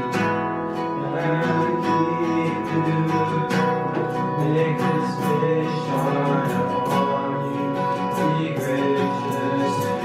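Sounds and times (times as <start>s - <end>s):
person singing: 0.0s - 10.0s
strummed acoustic guitar: 0.0s - 10.0s.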